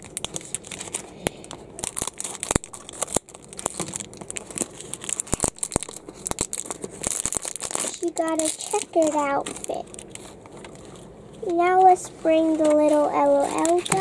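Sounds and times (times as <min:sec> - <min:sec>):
plastic wrapper crinkling and tearing: 0:00.0 - 0:14.0.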